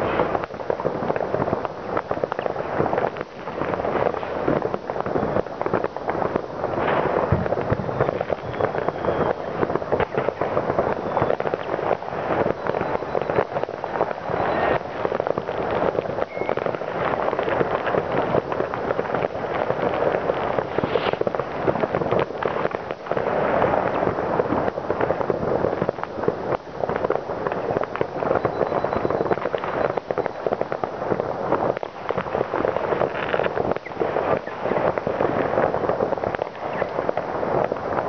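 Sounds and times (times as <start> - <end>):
fireworks crackling and banging: 0.0 - 38.0.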